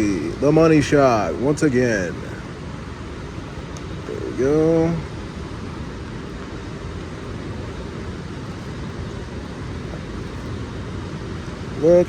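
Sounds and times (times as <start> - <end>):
rain hiss: 0.0 - 12.0
street traffic: 0.0 - 12.0.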